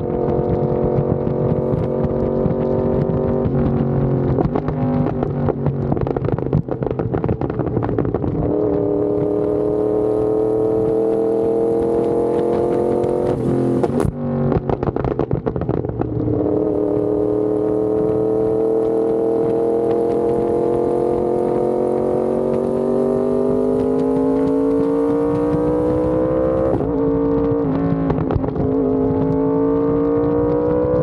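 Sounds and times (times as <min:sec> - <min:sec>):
exhaust crackles: 0:00.0 - 0:31.0
motorcycle engine revving: 0:00.0 - 0:31.0.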